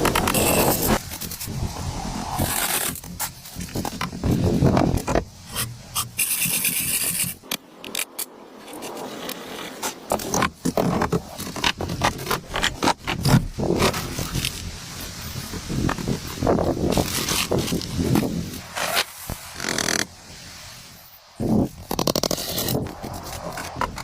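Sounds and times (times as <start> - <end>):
scraping and rubbing of objects: 0.0 - 20.1, 21.4 - 24.0.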